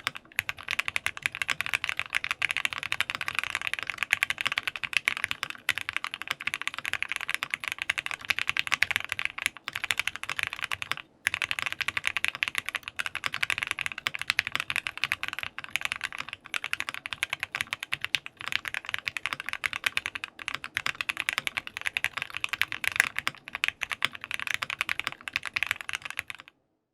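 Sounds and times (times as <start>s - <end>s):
fast typing on mechanical keyboard: 0.0s - 26.6s.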